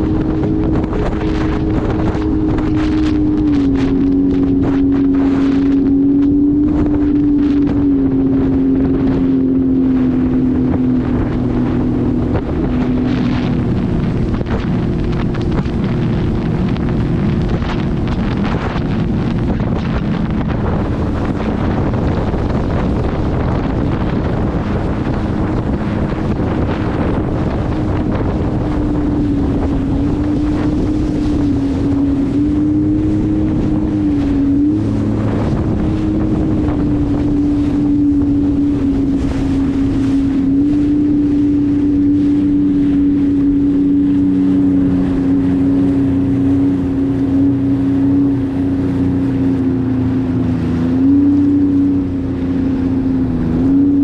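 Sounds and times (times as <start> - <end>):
jet ski engine running: 0.0 - 54.0
wind buffeting microphone: 0.0 - 54.0.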